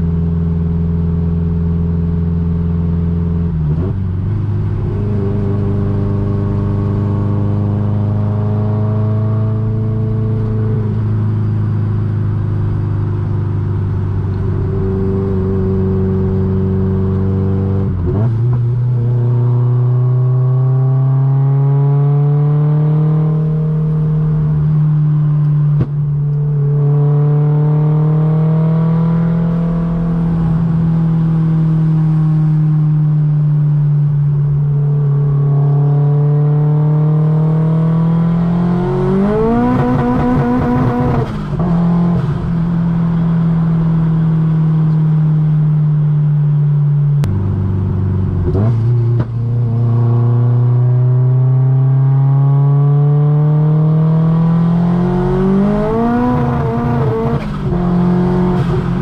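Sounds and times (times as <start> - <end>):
car engine revving: 1.5 - 59.0.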